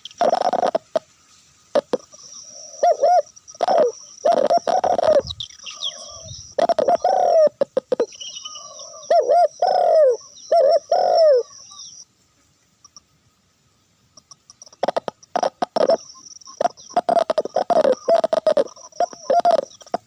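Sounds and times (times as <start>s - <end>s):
dove cooing: 0.0s - 1.1s, 1.7s - 11.8s, 14.8s - 20.0s.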